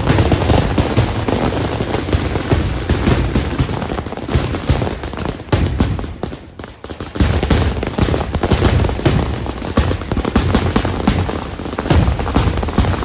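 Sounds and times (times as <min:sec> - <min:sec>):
rapid firecracker bangs: 0:00.0 - 0:13.0.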